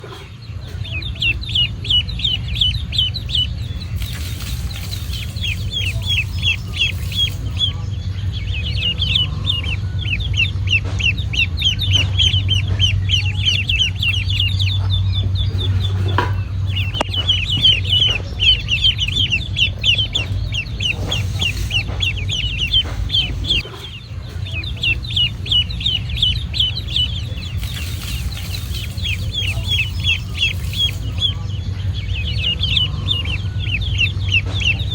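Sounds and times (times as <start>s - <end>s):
ducklings peeping: 0.0s - 34.9s
steady low hum: 0.0s - 34.9s.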